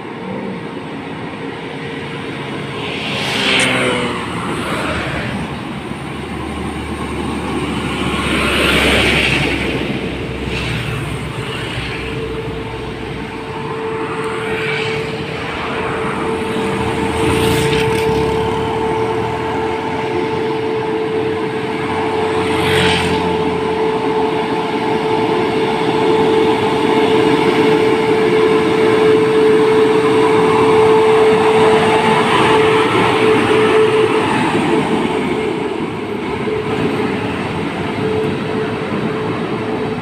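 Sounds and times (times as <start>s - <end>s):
diesel truck engine drone: 0.0s - 40.0s
vehicles passing by: 0.0s - 40.0s.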